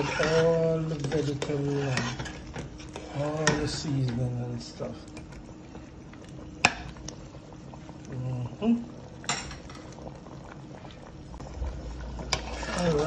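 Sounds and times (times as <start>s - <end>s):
pot boiling and bubbling: 0.0s - 13.0s.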